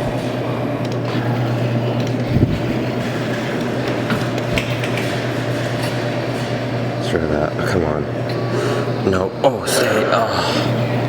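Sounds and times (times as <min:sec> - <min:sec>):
claw machine motor hum: 0:00.0 - 0:11.0.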